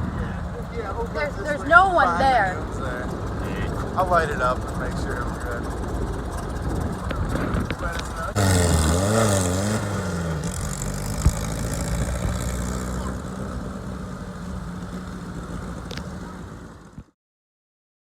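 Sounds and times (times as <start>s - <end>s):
engine idling: 0.0s - 17.1s.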